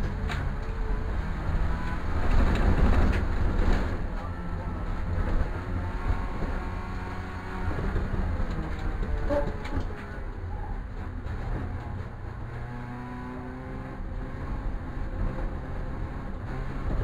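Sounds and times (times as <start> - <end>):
racing car engine running hard: 0.0 - 17.0
tyres rumbling on dirt: 0.0 - 17.0.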